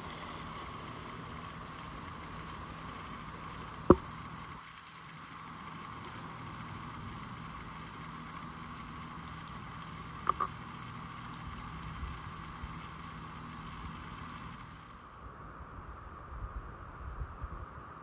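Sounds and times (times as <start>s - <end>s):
sprinkler spray hissing: 0.0s - 15.3s.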